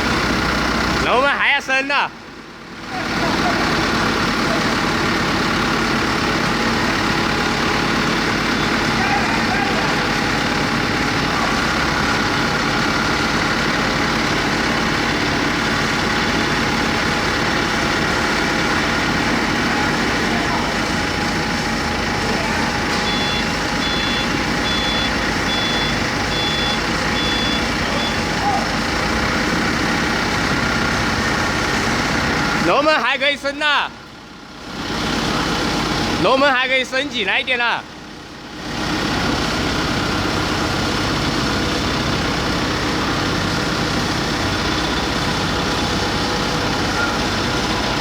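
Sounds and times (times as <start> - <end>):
industrial machinery hum: 0.0 - 48.0.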